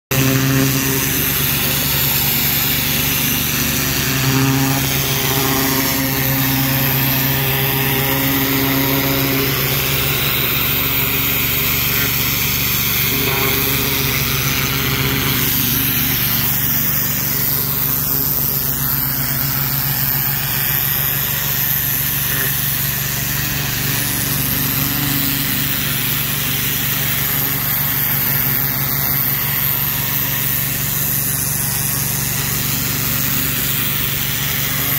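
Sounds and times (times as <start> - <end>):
pressure washer engine running: 0.0 - 34.9
water jet hissing on brick: 0.1 - 34.9.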